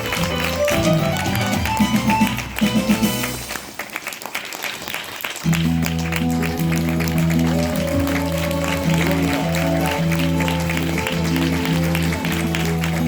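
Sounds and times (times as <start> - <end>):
stage musical music: 0.0 - 13.0.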